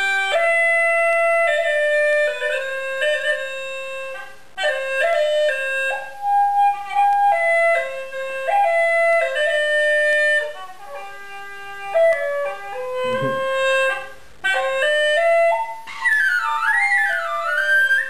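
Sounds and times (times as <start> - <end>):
gourd flute melody: 0.0 - 18.0.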